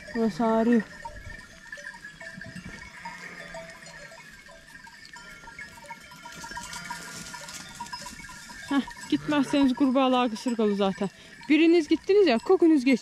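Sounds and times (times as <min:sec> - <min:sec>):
sheep bells clinking: 0:00.0 - 0:13.0.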